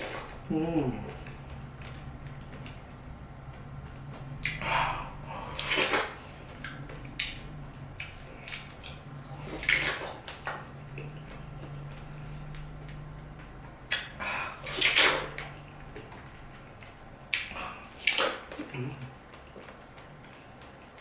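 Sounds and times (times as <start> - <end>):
steady low hum: 0.0 - 21.0
wet chewing and mouth smacking: 0.0 - 21.0.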